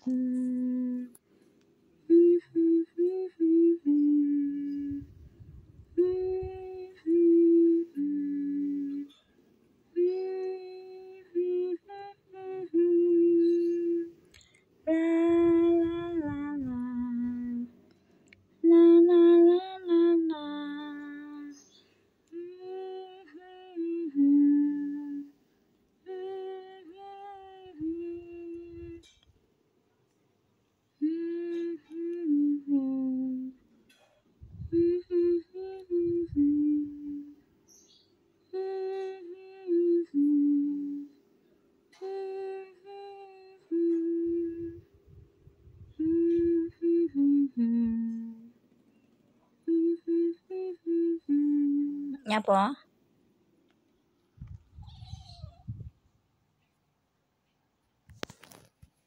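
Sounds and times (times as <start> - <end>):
person humming a slow tune: 0.0 - 1.2, 2.0 - 9.2, 9.9 - 17.9, 18.6 - 25.4, 26.0 - 29.2, 30.8 - 41.3, 41.9 - 52.7.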